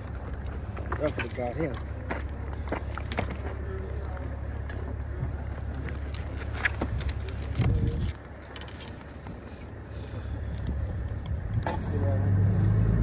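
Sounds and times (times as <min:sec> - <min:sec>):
light clicks and rattles: 0:00.0 - 0:12.1
vehicle engine rumbling: 0:00.0 - 0:13.0.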